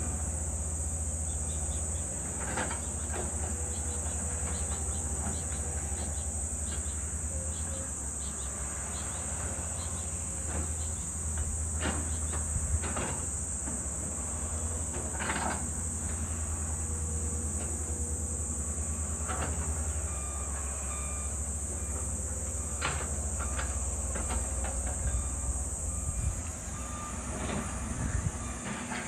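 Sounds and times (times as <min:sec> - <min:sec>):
distant excavator engine rumble: 0:00.0 - 0:29.0
insects droning: 0:00.0 - 0:29.0.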